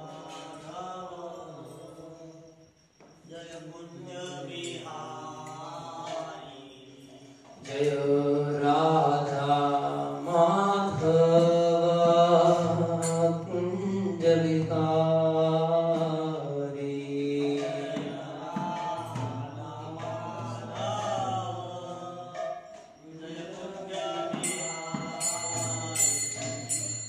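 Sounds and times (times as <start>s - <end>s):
devotional chanting: 0.0s - 27.0s.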